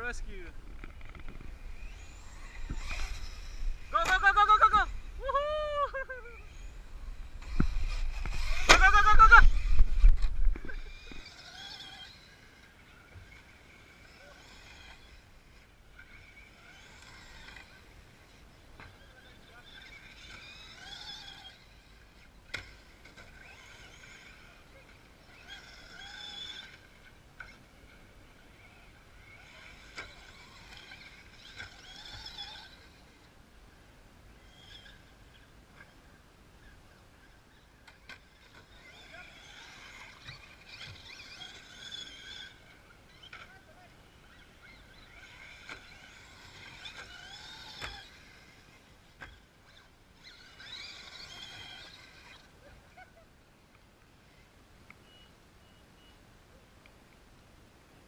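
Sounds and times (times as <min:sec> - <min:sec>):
electric toy truck motors whining: 0:00.6 - 0:54.6.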